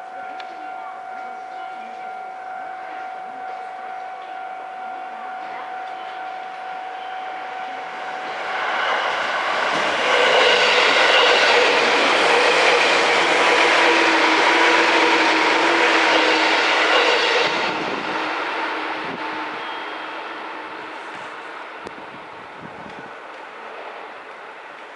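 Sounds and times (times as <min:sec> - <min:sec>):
electric train passing: 0:00.0 - 0:24.9.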